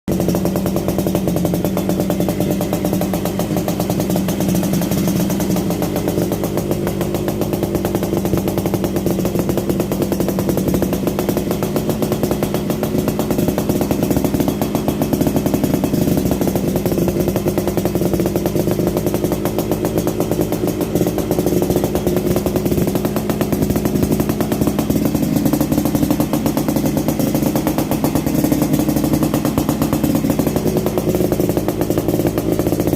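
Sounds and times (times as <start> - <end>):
motorcycle engine running: 0.1 - 32.9.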